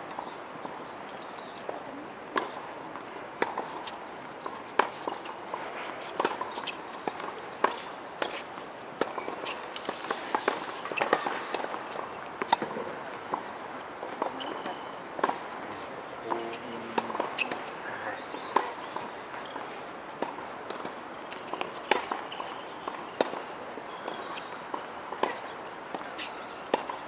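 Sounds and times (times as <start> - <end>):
tennis balls struck and bouncing: 1.7 - 15.6, 16.3 - 27.0.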